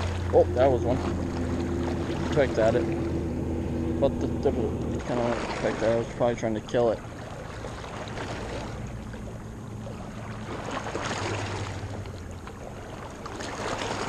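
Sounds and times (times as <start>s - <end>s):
small waves lapping: 0.0s - 14.0s.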